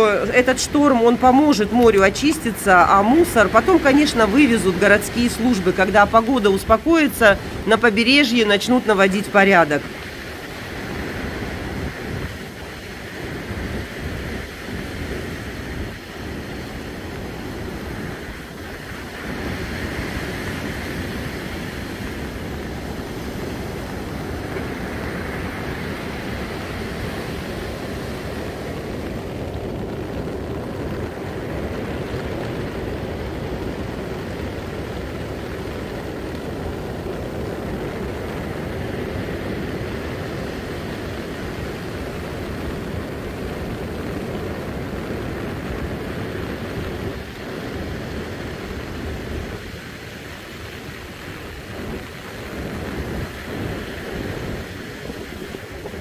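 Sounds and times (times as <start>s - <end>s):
surf breaking on shore: 0.0s - 56.0s
wind buffeting microphone: 0.0s - 56.0s.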